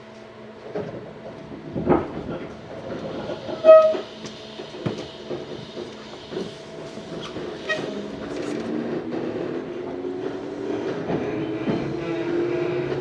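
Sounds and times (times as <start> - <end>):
train running noise: 0.0 - 13.0.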